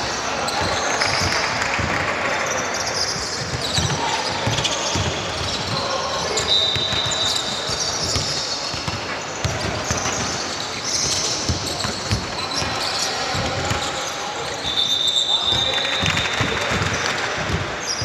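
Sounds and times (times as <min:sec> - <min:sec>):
basketball bouncing on court: 0:00.5 - 0:14.7, 0:15.4 - 0:18.0.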